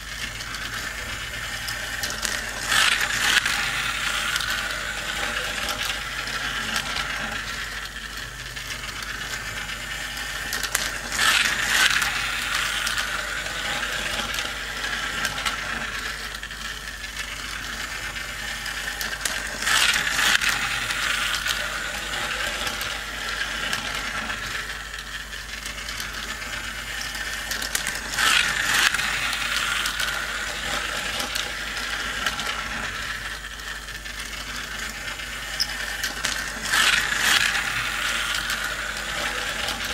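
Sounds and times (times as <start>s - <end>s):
toy motor whirring and clicking: 0.0s - 39.9s.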